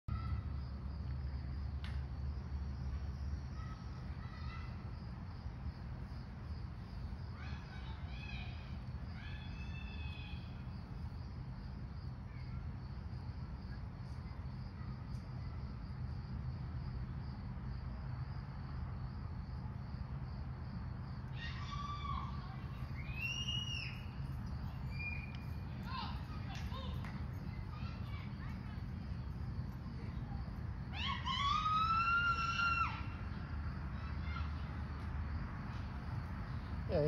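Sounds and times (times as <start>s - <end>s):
insects chirping: 0.1s - 37.0s.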